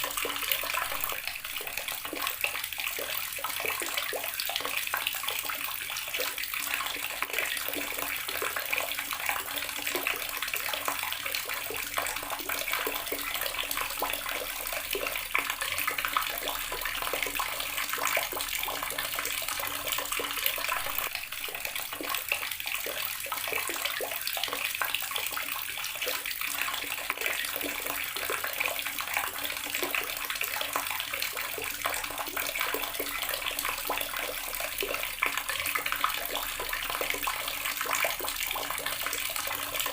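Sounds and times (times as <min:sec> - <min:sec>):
water running from a tap and splashing: 0:00.0 - 0:39.9.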